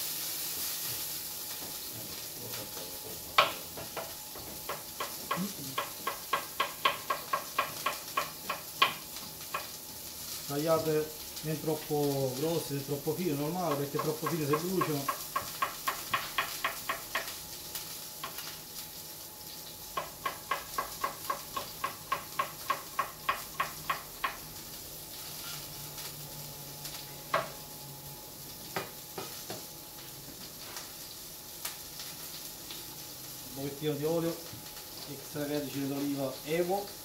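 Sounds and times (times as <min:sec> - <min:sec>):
meat sizzling in a pan: 0:00.0 - 0:37.0.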